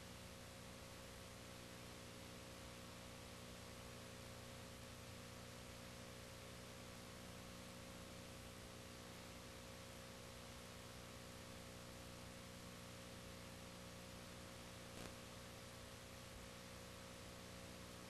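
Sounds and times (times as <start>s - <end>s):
faint hum and hiss: 0.0s - 18.0s.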